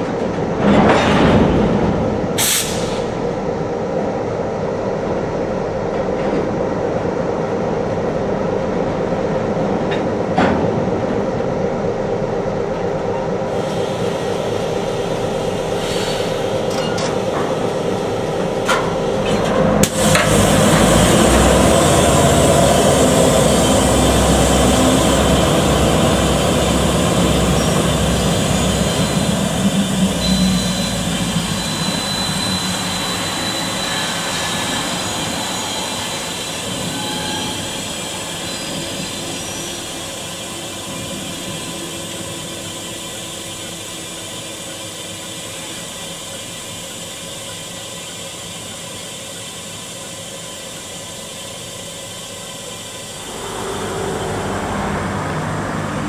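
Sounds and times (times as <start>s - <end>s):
diesel locomotives rumbling: 0.0s - 56.0s.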